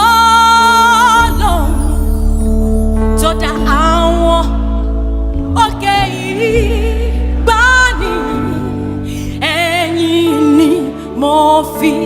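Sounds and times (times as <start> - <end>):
keyboard and guitar backing: 0.0 - 12.0
person singing: 0.0 - 12.0.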